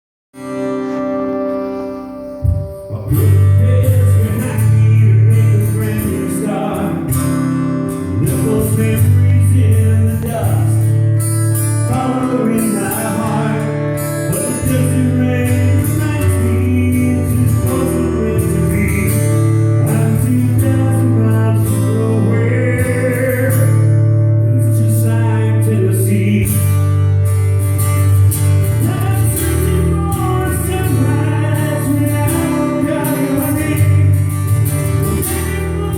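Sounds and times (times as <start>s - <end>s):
guitar: 0.3s - 35.9s
low bass notes: 0.4s - 35.9s
man singing: 2.4s - 11.1s, 11.7s - 26.9s, 28.7s - 35.9s.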